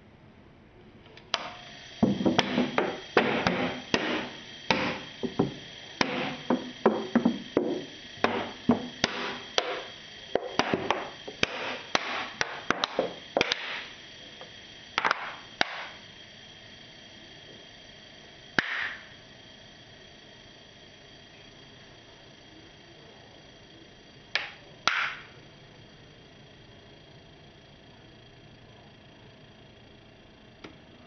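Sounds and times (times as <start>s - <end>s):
compressor running tone: 0.0s - 31.0s.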